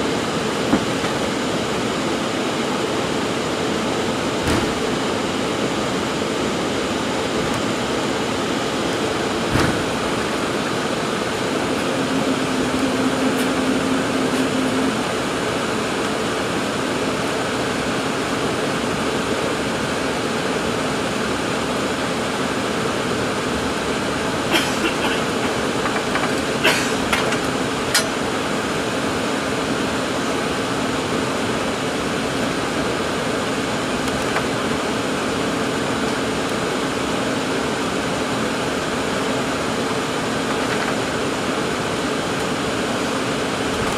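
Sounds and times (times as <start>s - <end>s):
airliner cabin hum: 0.0s - 43.9s.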